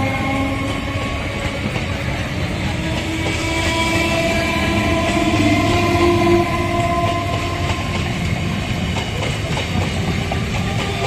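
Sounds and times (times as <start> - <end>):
steady train whine: 0.0 - 11.0
train wheels clattering: 0.0 - 11.0.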